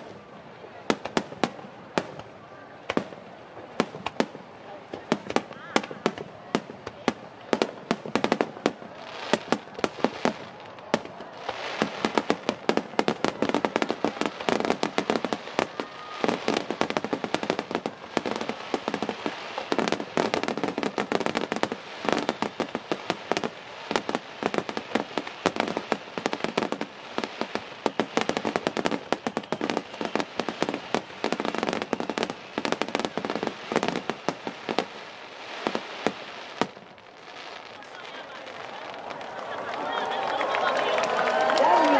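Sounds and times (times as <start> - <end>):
crackling of burning fireworks: 0.0 - 41.9.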